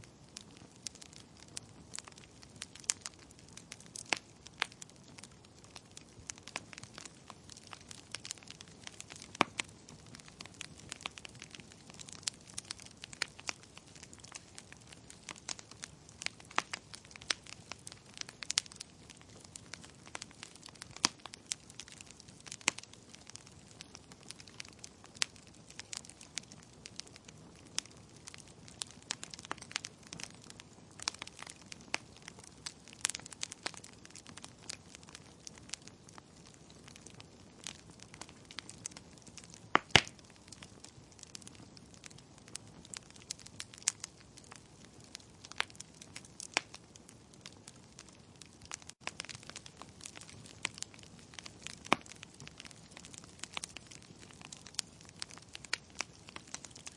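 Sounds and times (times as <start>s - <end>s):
burning logs popping and snapping: 0.0s - 56.9s.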